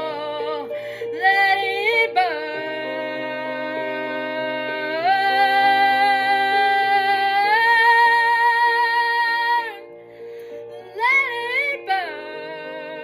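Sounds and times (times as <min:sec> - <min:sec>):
woman singing with vibrato: 0:00.0 - 0:09.9, 0:10.9 - 0:13.0.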